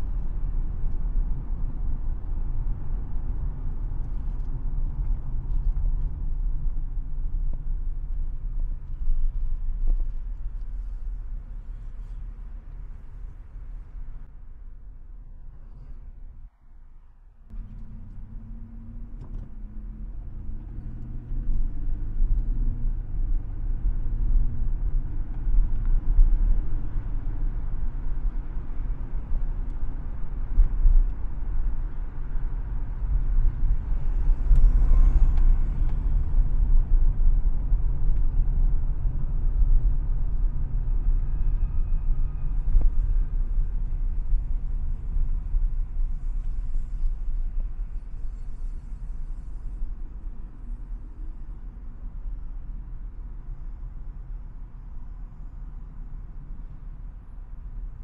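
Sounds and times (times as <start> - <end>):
car engine: 0.0 - 56.8
road rumble: 0.0 - 58.0.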